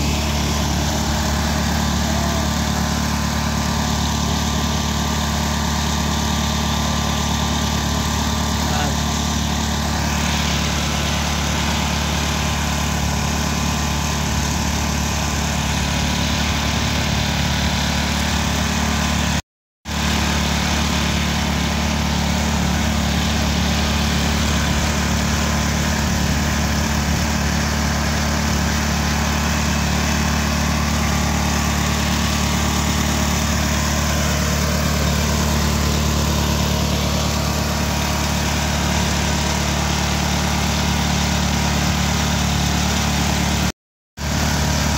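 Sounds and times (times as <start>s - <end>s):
machine crushing millet humming: 0.0s - 44.9s.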